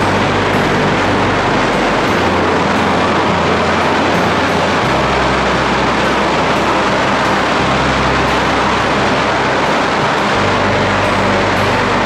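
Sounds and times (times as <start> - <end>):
arc furnace roar: 0.0 - 12.0
low bass background music: 0.0 - 12.0.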